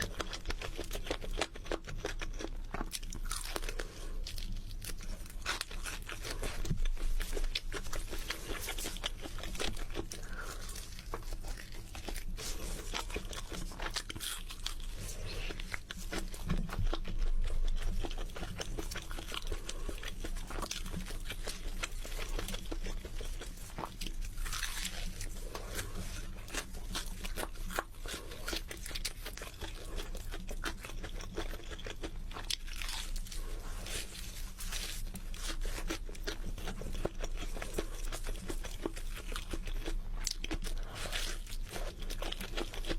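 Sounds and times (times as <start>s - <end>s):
crinkling: 0.0s - 42.9s
person chewing crunchy food: 0.0s - 42.9s.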